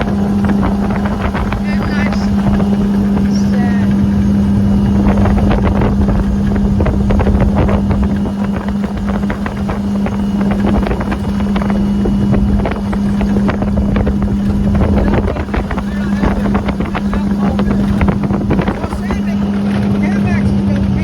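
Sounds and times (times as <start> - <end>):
boat motor running: 0.0 - 21.0
wind buffeting microphone: 0.0 - 21.0.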